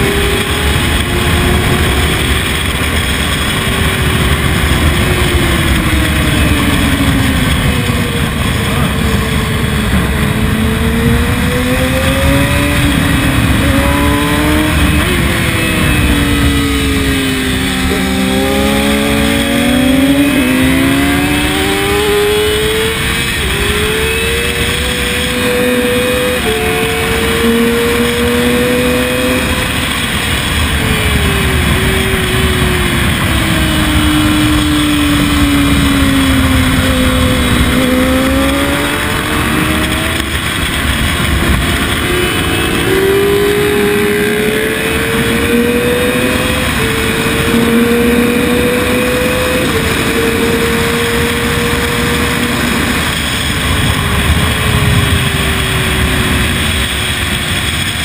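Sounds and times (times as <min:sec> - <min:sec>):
motorcycle engine revving at speed: 0:00.0 - 0:58.0
wind rushing on microphone: 0:00.0 - 0:58.0.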